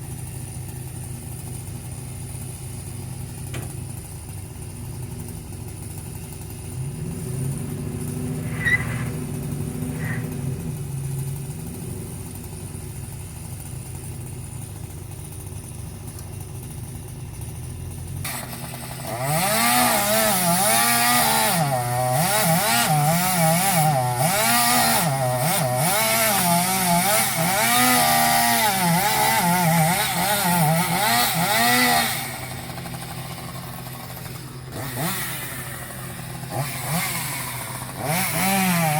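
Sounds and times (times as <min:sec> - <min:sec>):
chainsaw cutting wood: 0:00.0 - 0:04.1, 0:04.8 - 0:38.9.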